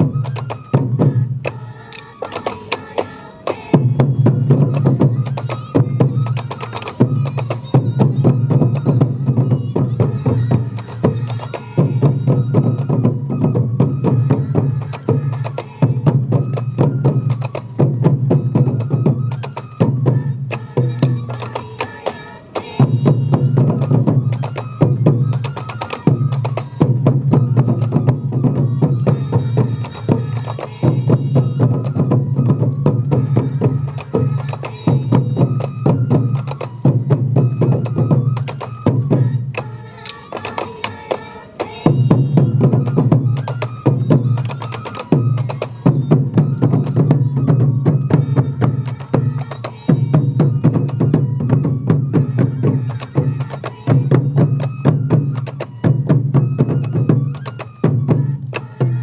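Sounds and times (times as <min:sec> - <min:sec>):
high bamboo flute: 0:00.0 - 0:59.0
taiko drums beating: 0:00.0 - 0:59.0.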